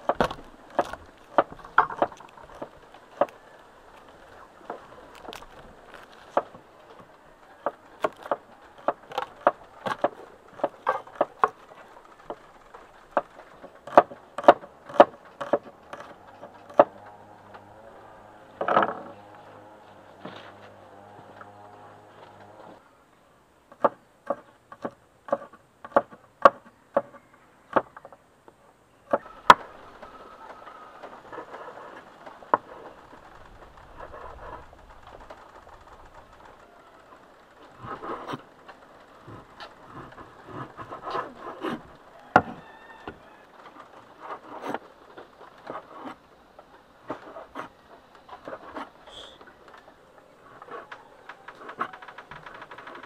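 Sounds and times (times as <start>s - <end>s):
rustling: 0.0s - 23.2s, 23.8s - 53.0s.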